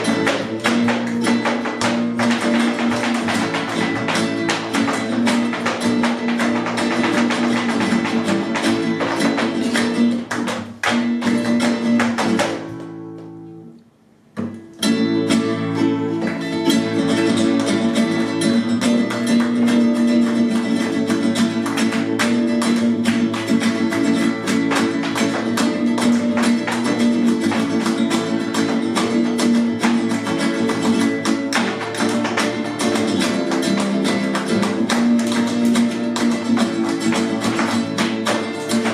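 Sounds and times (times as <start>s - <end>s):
flamenco acoustic guitars: 0.0s - 38.9s.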